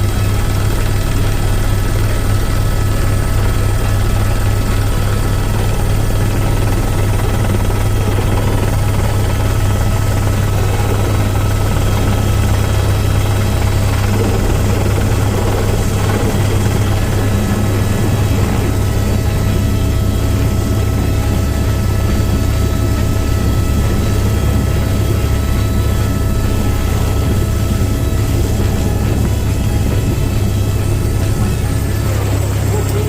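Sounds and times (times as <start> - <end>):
faint steady whines: 0.0 - 33.0
helicopter engine and rotors: 0.0 - 33.0.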